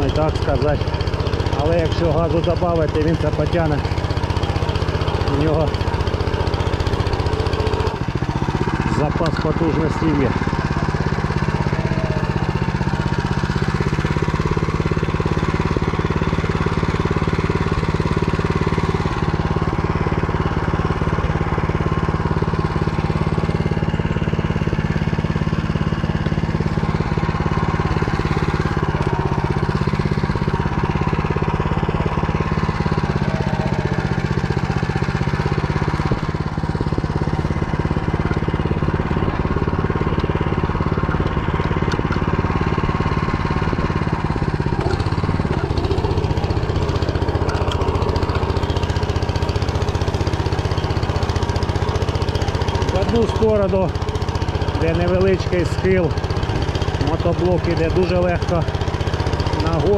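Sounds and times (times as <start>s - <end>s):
walk-behind tractor engine under load: 0.0s - 59.9s.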